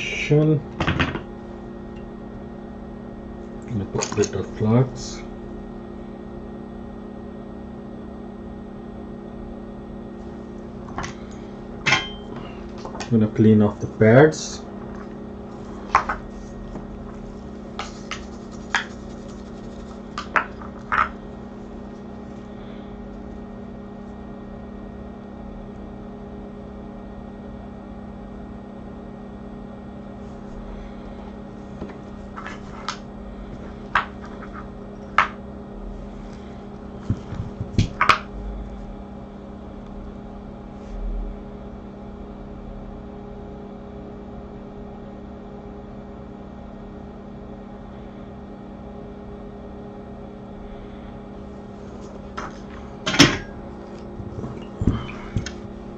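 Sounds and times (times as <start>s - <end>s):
equipment hum: 0.0s - 55.9s.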